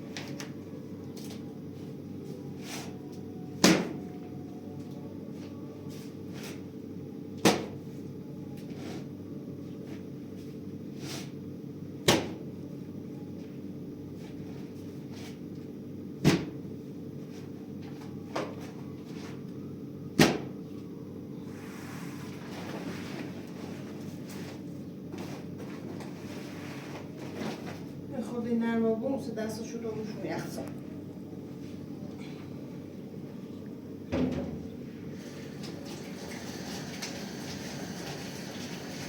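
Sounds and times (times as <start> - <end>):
steady low hum: 0.0 - 35.3.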